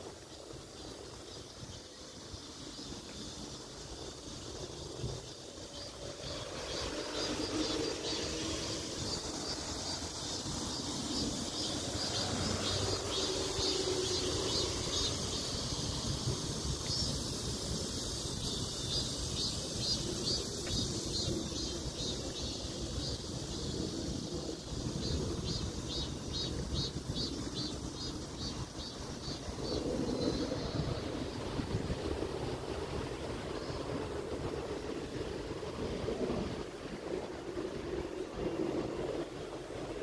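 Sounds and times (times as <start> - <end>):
insects chirping faintly: 0.0 - 40.0
wind buffeting microphone: 0.0 - 40.0.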